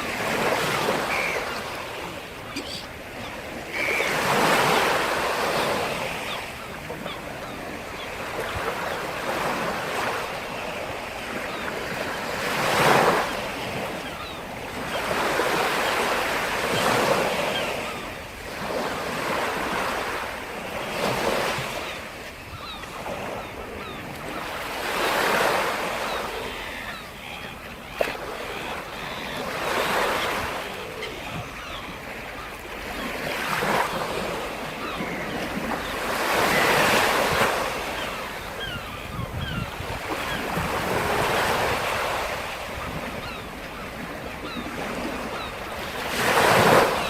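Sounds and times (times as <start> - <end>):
waves breaking on shore: 0.0 - 47.0.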